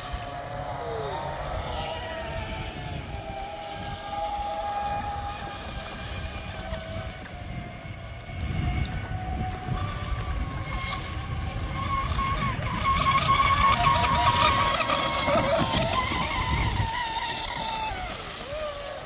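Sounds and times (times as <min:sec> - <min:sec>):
electric boat motor whine: 0:00.0 - 0:19.0
wind rumble on microphone: 0:00.0 - 0:19.0.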